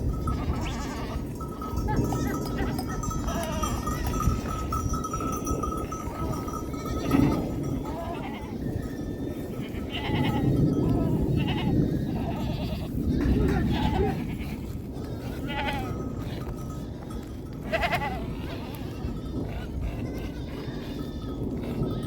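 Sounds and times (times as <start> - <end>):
constant low rumble: 0.0 - 22.0
sheep and goats bleating: 0.0 - 22.0.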